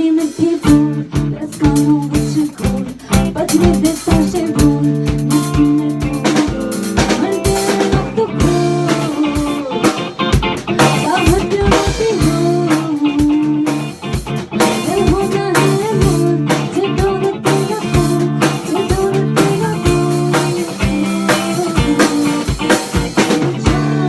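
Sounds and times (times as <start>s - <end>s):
bass guitar: 0.0s - 24.0s
drum kit: 0.0s - 24.0s.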